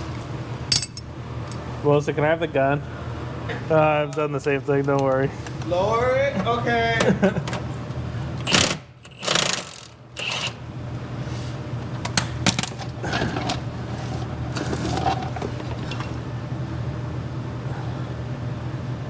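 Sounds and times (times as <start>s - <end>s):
steady low hum: 0.0s - 9.1s, 9.9s - 19.0s.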